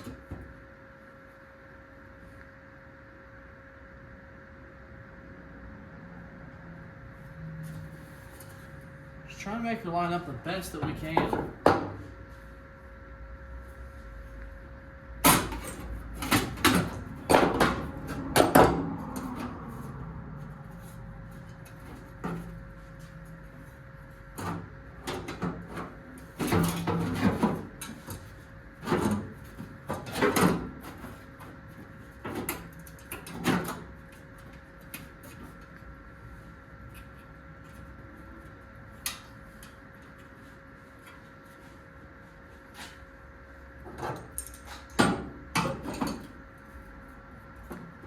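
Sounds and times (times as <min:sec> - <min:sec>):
faint hum: 0:00.0 - 0:48.0.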